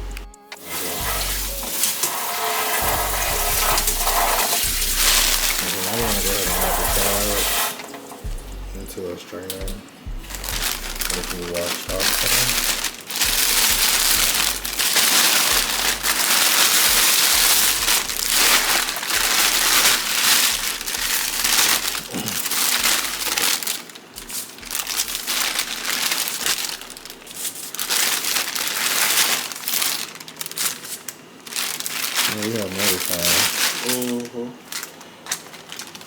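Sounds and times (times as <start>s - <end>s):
plastic packaging crinkling: 0.0s - 36.0s.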